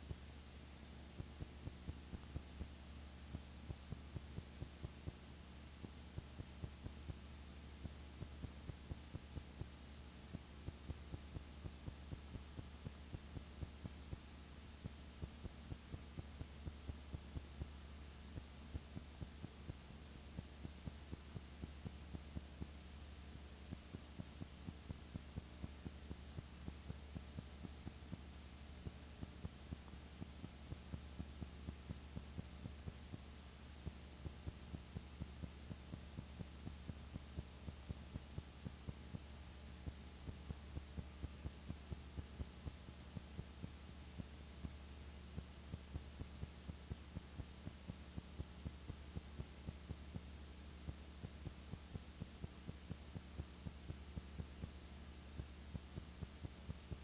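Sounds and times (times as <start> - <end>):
low electrical hum: 0.0 - 57.0
soft regular ticks: 0.0 - 57.0.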